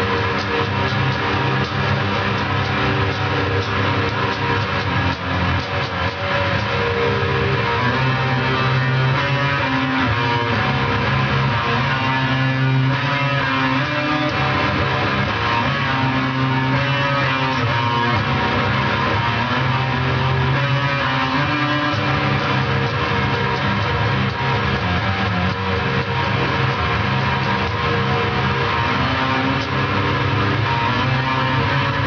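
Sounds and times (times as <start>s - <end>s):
doomy electric guitar music: 0.0s - 32.0s.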